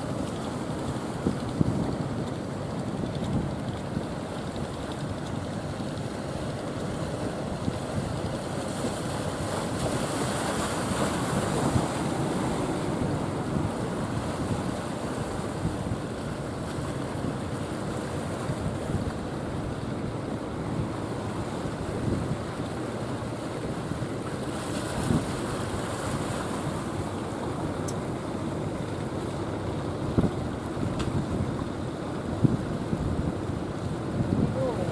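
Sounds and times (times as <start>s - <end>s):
waves breaking: 0.0s - 34.9s
wind buffeting microphone: 0.1s - 28.9s, 29.5s - 34.9s.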